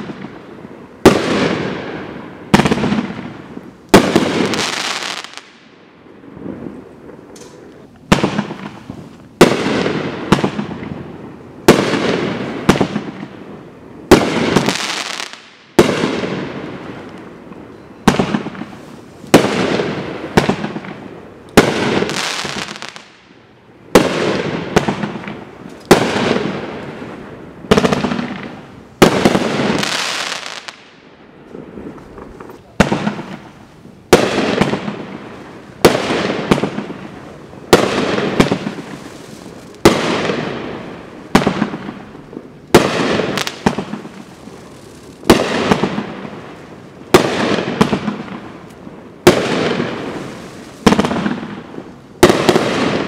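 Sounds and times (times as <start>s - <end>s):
fireworks firing shots: 0.0s - 53.0s.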